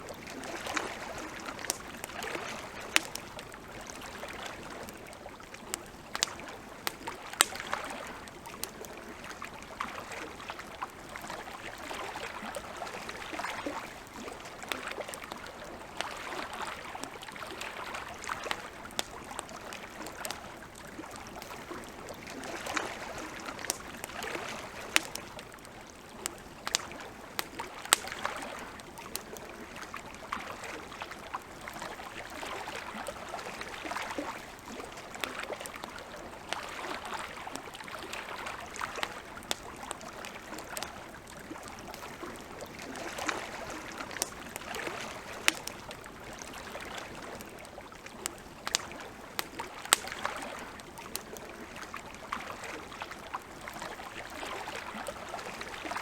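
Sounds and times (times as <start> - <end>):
campfire crackling: 0.0 - 56.0
lake water washing: 0.0 - 56.0.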